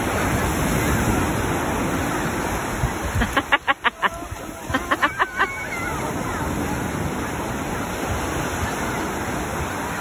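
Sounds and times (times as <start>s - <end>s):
surf washing onto beach: 0.0s - 10.0s.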